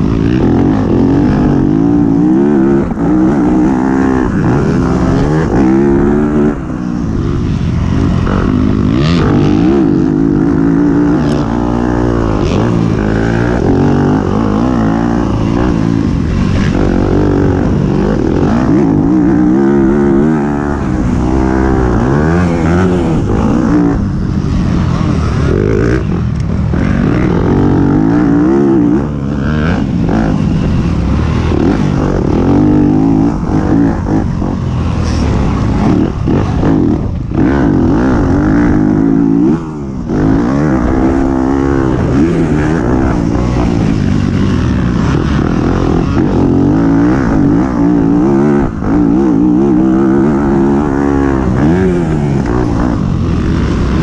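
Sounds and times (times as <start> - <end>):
race motorcycle engines revving: 0.0 - 54.0.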